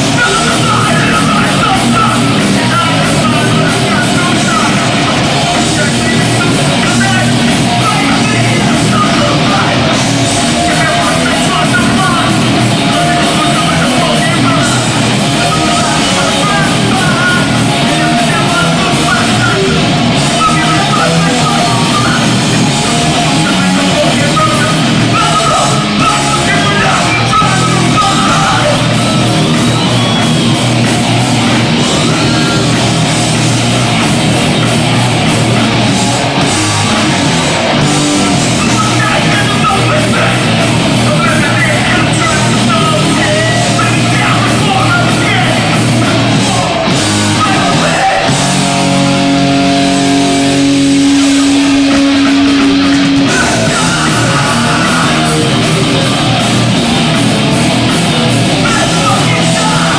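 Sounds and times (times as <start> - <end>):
punk band playing live: 0.0 - 59.9
shouted vocals: 0.0 - 59.9.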